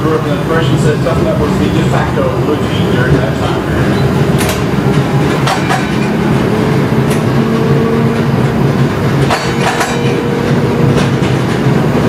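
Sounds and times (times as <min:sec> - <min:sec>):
higher hum: 0:00.0 - 0:12.0
streetcar motors and wheels rumbling: 0:00.0 - 0:12.0.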